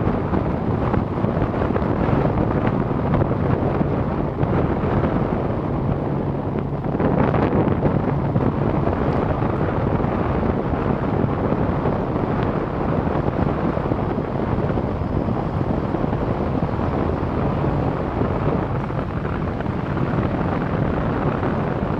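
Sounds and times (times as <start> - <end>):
low rumble of cable car cabin: 0.0 - 21.9
rushing wind: 0.0 - 21.9.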